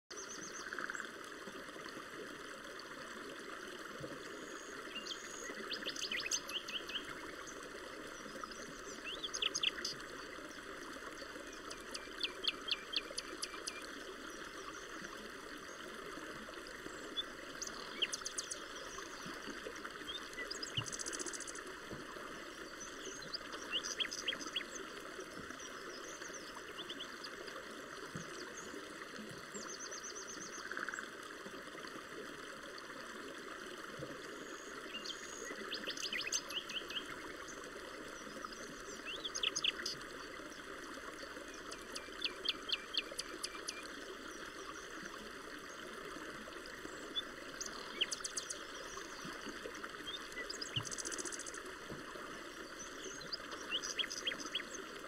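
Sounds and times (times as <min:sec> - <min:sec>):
songbirds chirping: 0:04.0 - 0:31.0, 0:34.2 - 0:55.0.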